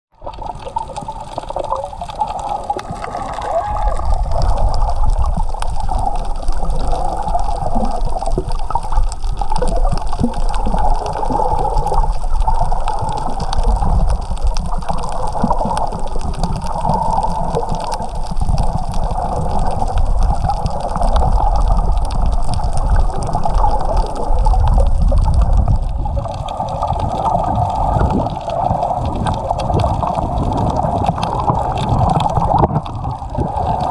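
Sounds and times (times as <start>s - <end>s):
water sloshing underwater: 0.1s - 33.9s.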